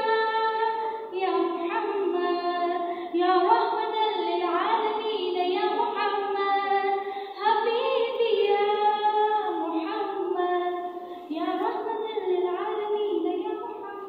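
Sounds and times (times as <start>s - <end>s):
girl singing unaccompanied: 0.0s - 14.0s.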